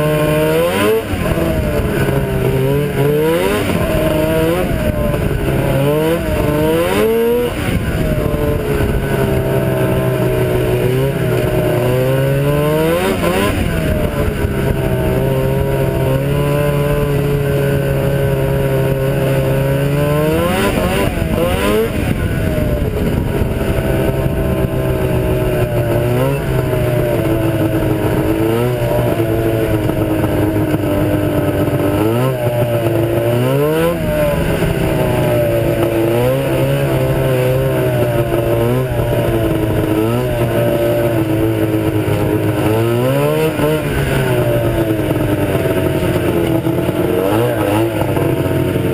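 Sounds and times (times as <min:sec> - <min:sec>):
snowmobile engine revving: 0:00.0 - 0:48.9.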